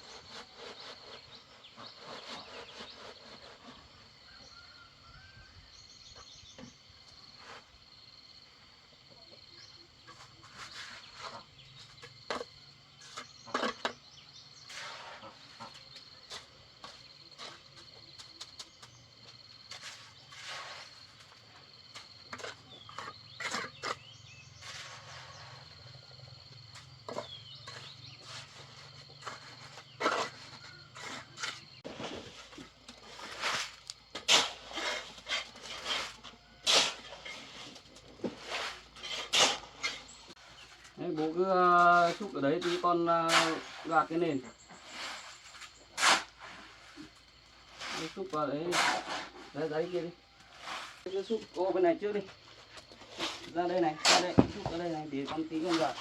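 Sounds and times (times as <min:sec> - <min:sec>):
knocks and scrapes of handwork: 0:00.0 - 0:05.3, 0:10.0 - 0:41.0, 0:41.7 - 0:51.4, 0:52.0 - 0:56.0
cricket trilling: 0:00.0 - 0:56.0.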